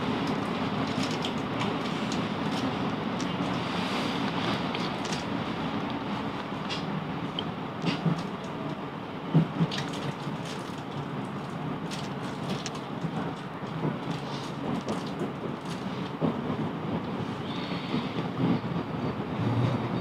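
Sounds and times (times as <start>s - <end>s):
electric train rumbling: 0.0s - 20.0s
wheels clicking over rails: 0.0s - 20.0s.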